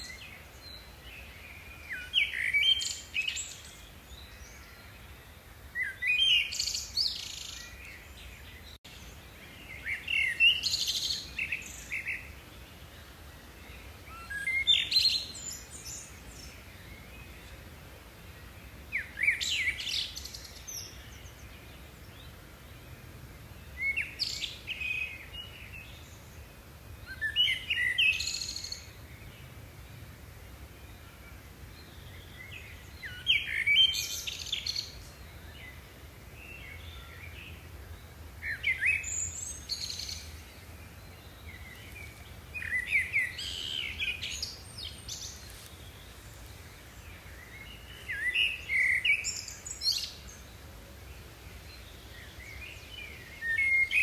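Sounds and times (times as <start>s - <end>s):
faint low background noise: 0.0s - 54.0s.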